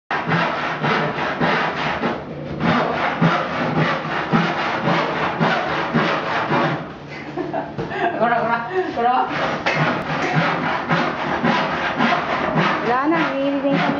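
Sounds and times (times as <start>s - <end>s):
handsaw cutting wood: 0.1s - 6.9s, 9.0s - 13.9s.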